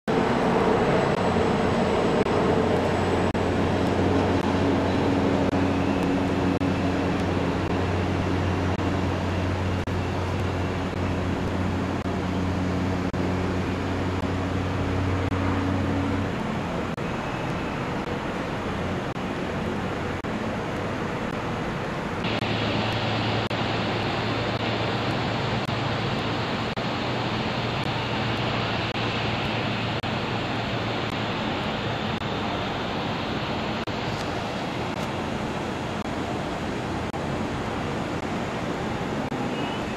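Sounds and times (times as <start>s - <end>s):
low hum: 0.1s - 32.9s
distant traffic: 0.1s - 39.9s.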